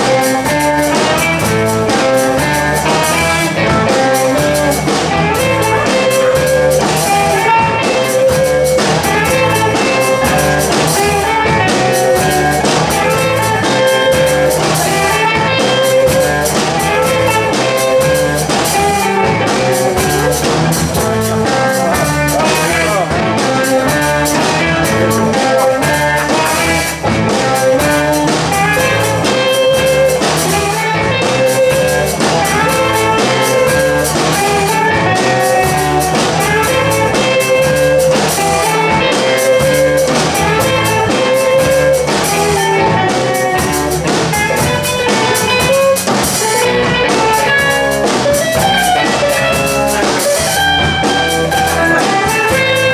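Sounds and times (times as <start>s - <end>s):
live rock band playing: 0.0s - 52.9s
steady drum beat: 0.0s - 52.9s.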